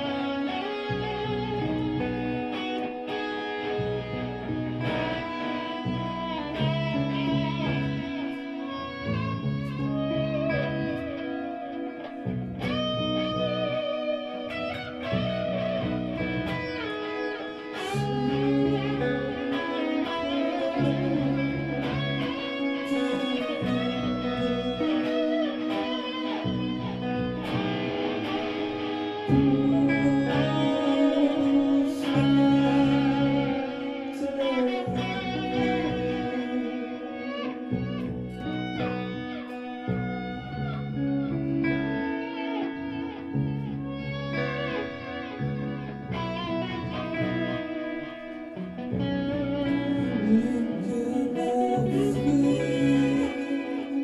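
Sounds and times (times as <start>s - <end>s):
bass line: 0.0s - 54.0s
guitar playing: 0.0s - 54.0s.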